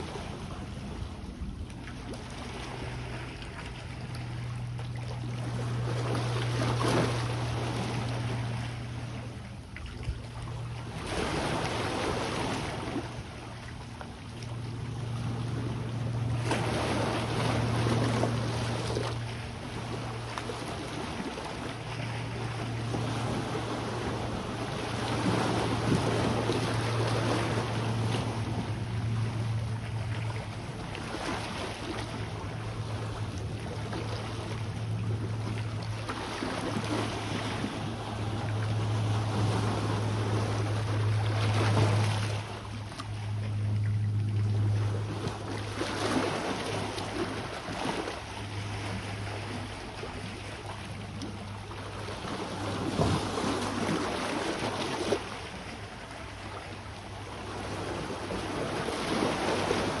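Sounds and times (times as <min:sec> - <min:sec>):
sea waves washing onto shore: 0:00.0 - 1:00.0
steady low hum: 0:00.0 - 1:00.0.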